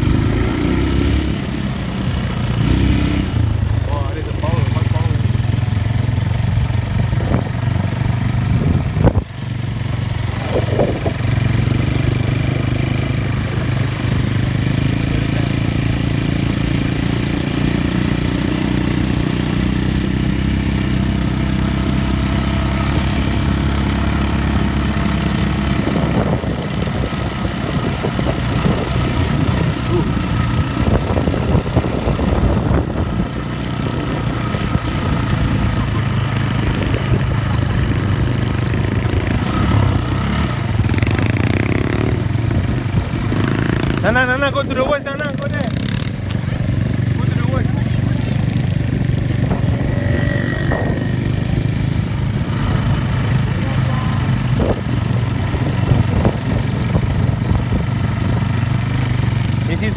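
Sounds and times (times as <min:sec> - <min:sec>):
quad bike engine droning: 0:00.0 - 0:59.9.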